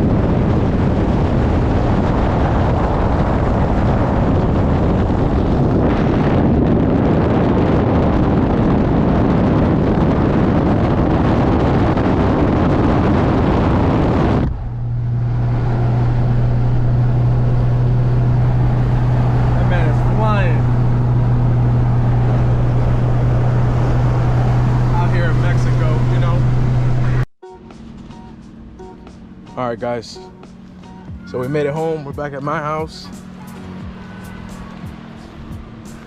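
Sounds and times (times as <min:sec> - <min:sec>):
low engine drone: 0:00.0 - 0:36.0
wind and road noise: 0:00.0 - 0:36.0.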